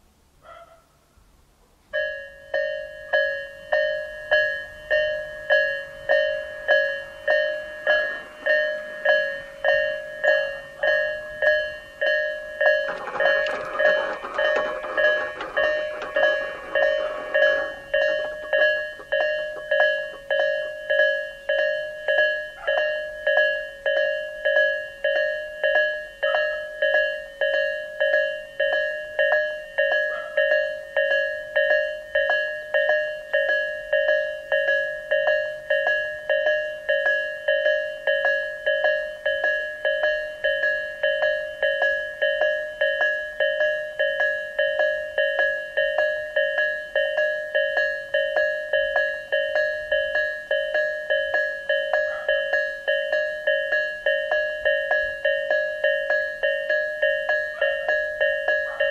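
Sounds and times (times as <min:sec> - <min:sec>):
electronic crossing warning bell: 0:02.0 - 0:58.9.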